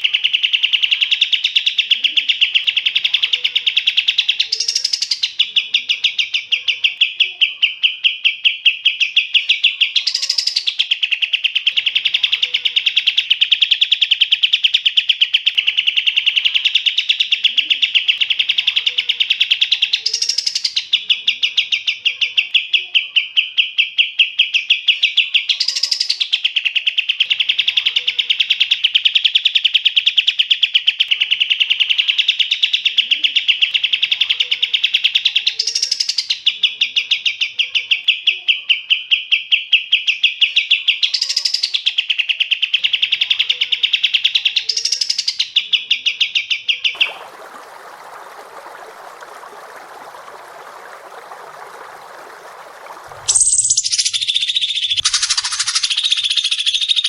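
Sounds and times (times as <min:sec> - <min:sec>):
songbird trilling: 0:00.0 - 0:30.3, 0:30.9 - 0:47.2, 0:52.5 - 0:57.0.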